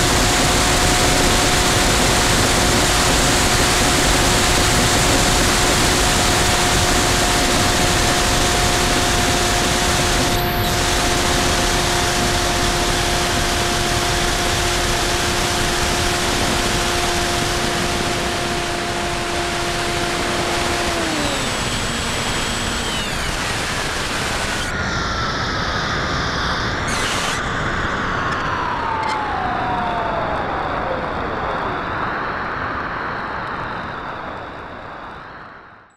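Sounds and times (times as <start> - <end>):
electric motor whine: 0.0 - 35.4.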